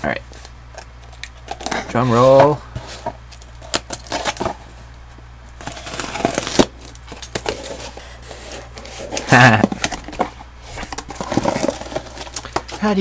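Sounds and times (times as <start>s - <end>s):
steady low hum: 0.0s - 13.0s
cardboard scraping and crinkling: 1.5s - 4.8s, 5.6s - 13.0s.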